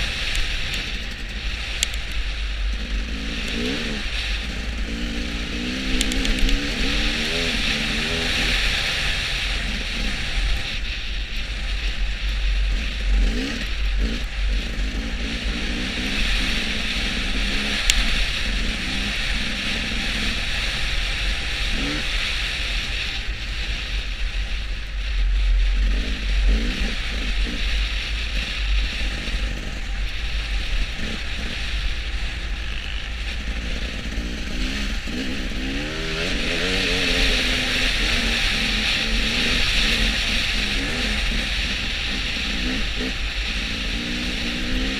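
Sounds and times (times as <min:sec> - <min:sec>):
low wind rumble: 0:00.0 - 0:44.9
road hiss: 0:00.0 - 0:44.9
vehicle engine running: 0:00.0 - 0:44.9.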